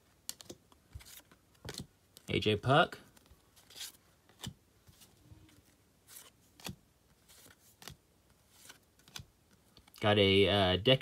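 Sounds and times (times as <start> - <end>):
cards flipped by hand: 0.2 - 2.3, 3.1 - 10.0.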